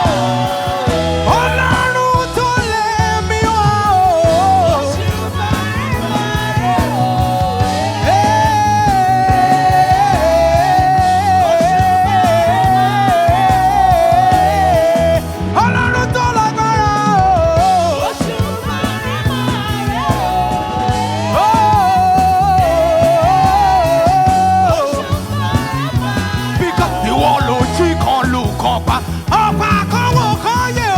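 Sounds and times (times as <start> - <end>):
bass: 0.0 - 30.9
drums: 0.0 - 30.9
sliding lead melody: 0.0 - 30.9.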